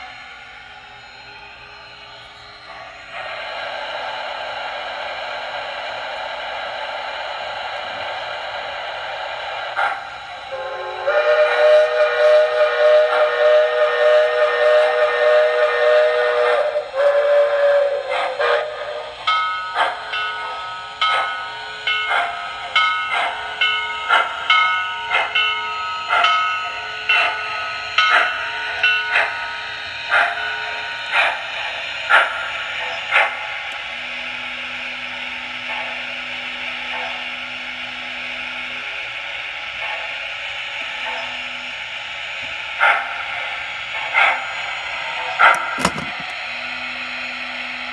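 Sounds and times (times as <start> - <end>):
steam hiss: 0.0 - 47.9.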